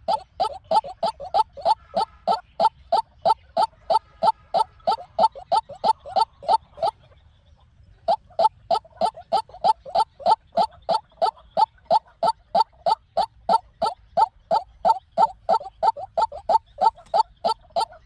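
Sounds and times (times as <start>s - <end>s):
waterhen calling: 0.0s - 7.1s, 8.0s - 18.0s.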